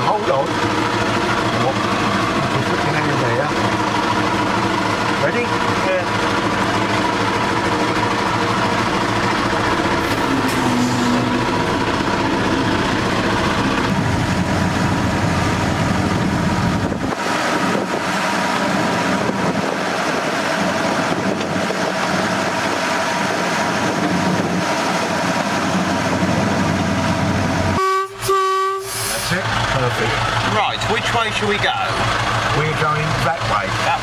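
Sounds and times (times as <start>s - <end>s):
diesel locomotive engine droning: 0.0s - 34.0s.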